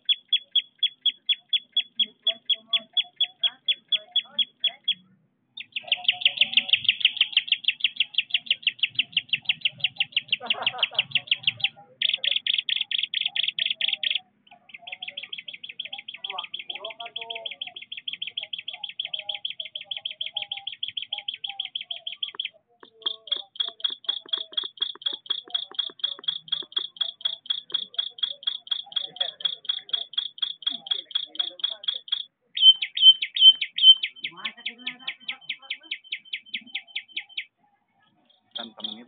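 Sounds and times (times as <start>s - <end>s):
rapid high chirping trill: 0.0s - 5.0s, 5.6s - 37.5s, 38.3s - 39.0s.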